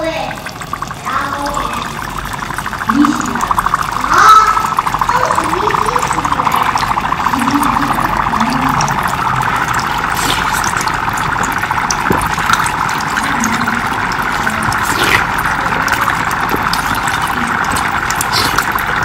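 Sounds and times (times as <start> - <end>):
dry ice bubbling and hissing: 0.0 - 19.0
water pouring from plastic bottle: 0.0 - 19.0.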